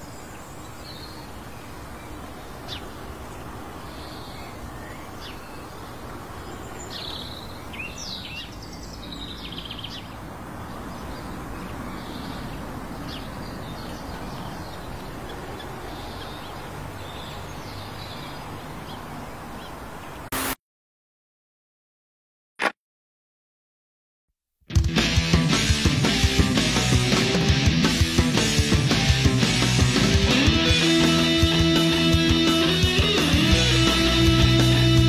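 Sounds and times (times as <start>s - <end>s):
birds chirping: 0.0s - 20.3s, 25.6s - 35.0s.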